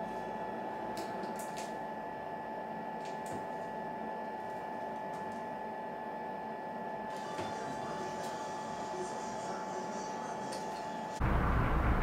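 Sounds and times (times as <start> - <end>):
machine hum with whine: 0.0 - 12.0.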